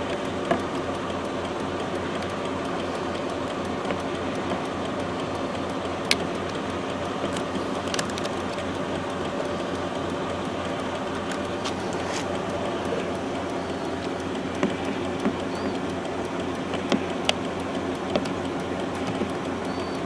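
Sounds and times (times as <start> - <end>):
sharp clicks: 0.0 - 20.0
steady mechanical hum: 0.0 - 20.0.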